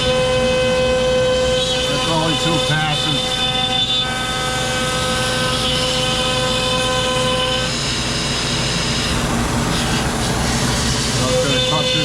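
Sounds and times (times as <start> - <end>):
router spindle whine: 0.0 - 12.0
wood cutting noise: 0.0 - 12.0.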